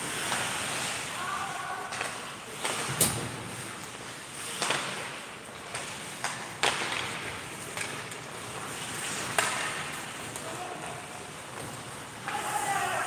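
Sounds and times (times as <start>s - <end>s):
skates scraping ice: 0.0s - 13.0s
hockey sticks and puck knocking: 1.9s - 12.7s.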